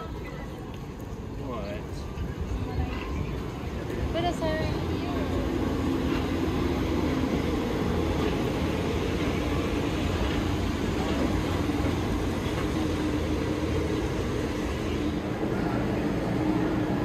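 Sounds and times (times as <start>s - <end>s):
monorail train rumbling: 0.0s - 17.0s.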